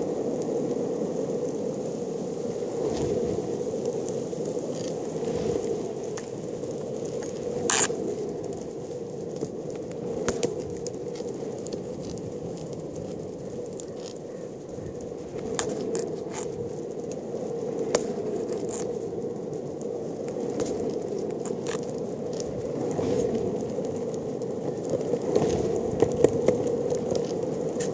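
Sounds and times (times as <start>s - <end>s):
longboard wheels rolling on asphalt: 0.0s - 27.9s.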